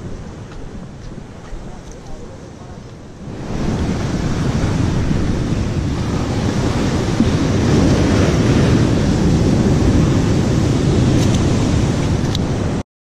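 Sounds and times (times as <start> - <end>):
sea surf on rocks: 0.0 - 12.8
wind buffeting microphone: 0.0 - 12.8.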